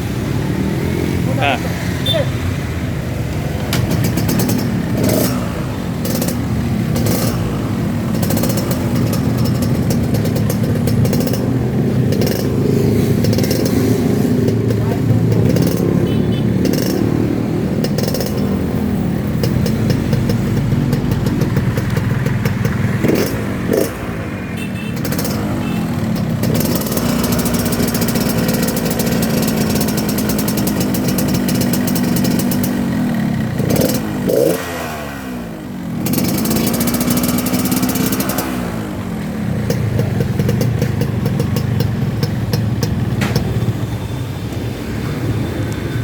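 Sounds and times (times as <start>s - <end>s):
two-stroke motorcycle engine revving: 0.0s - 46.0s.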